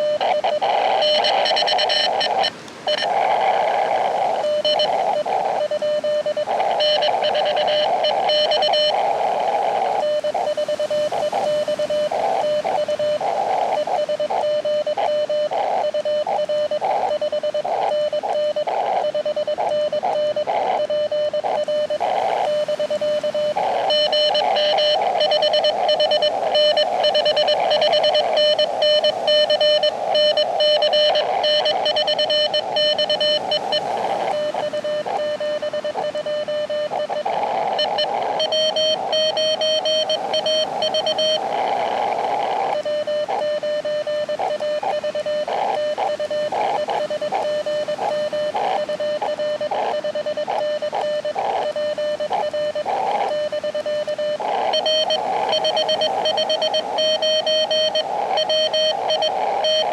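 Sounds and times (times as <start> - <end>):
morse code tone: 0.0 - 59.9
receiver hiss: 0.0 - 59.9.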